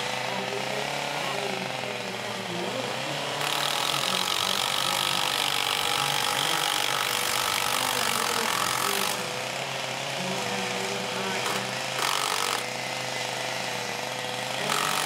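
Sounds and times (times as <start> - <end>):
chainsaw engines droning: 0.0 - 15.0
power tool working wood: 0.0 - 15.0.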